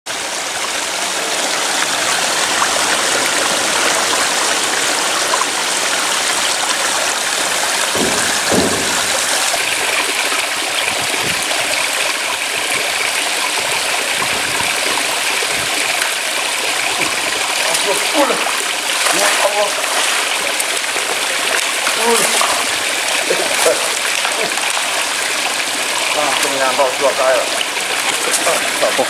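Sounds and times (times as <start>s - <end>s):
water pouring over spillway: 0.1s - 29.0s.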